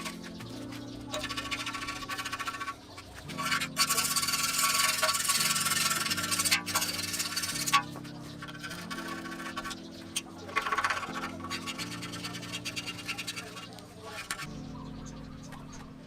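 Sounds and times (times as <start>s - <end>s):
paint scraping off steel: 0.0s - 14.7s
background music with chords: 0.0s - 16.0s.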